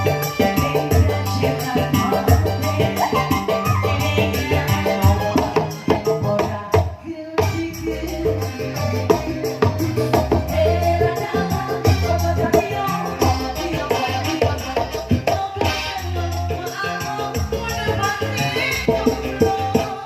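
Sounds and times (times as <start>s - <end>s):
band playing through loudspeakers: 0.0s - 20.0s
hand drums beating: 0.0s - 20.0s.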